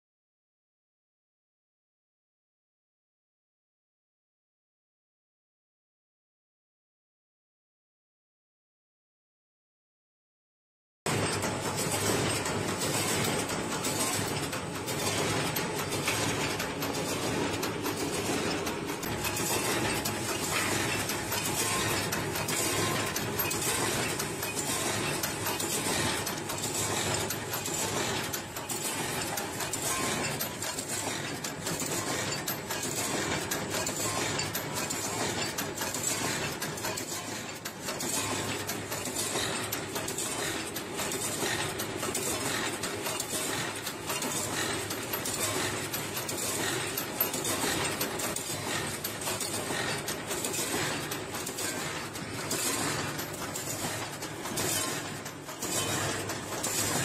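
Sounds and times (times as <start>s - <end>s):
welding machine clattering: 11.1s - 57.0s.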